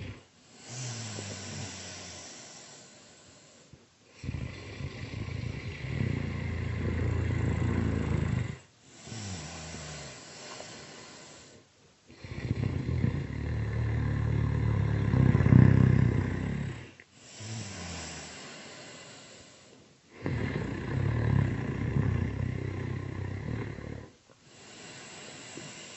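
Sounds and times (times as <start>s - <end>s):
loud snoring: 0.0s - 3.5s, 4.1s - 25.9s.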